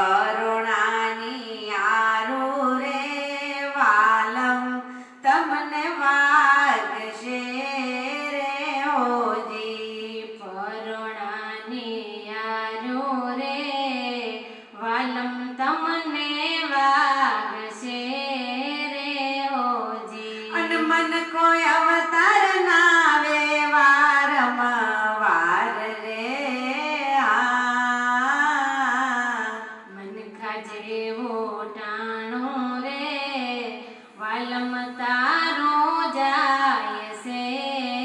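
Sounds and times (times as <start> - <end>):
women singing into microphones: 0.0 - 38.0.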